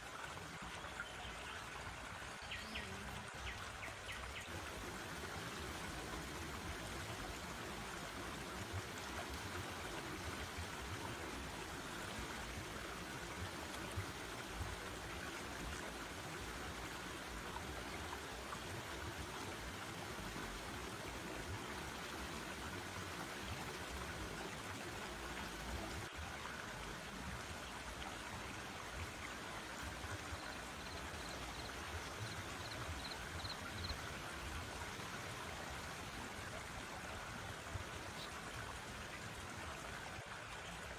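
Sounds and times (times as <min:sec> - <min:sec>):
forest stream flowing: 0:00.0 - 0:40.9.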